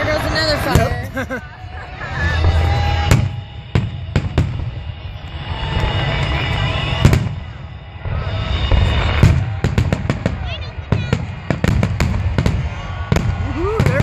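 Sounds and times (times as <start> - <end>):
fireworks bangs and booms: 0.3 - 1.8, 2.4 - 14.0.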